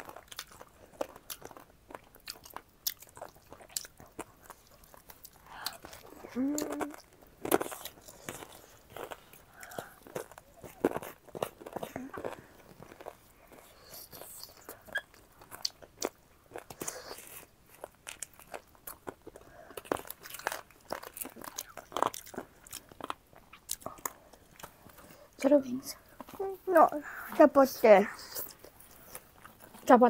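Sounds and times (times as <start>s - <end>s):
person chewing crunchy food: 0.0s - 25.4s, 28.2s - 30.0s.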